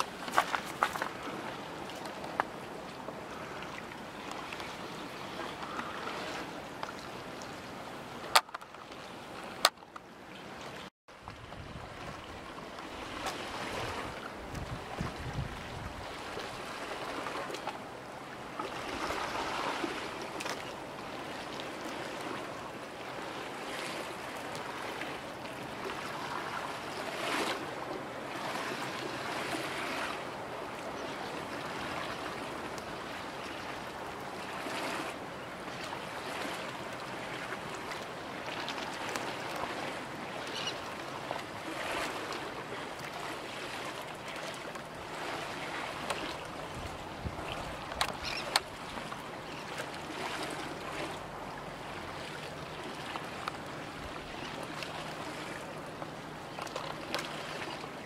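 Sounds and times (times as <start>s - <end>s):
small waves lapping: 0.0s - 58.0s.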